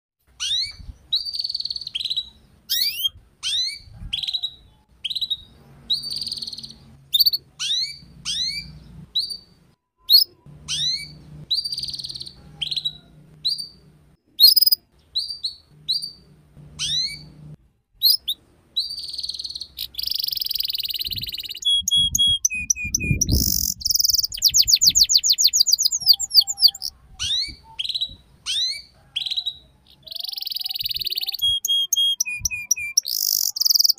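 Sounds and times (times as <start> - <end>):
canary singing: 0.3 - 33.9.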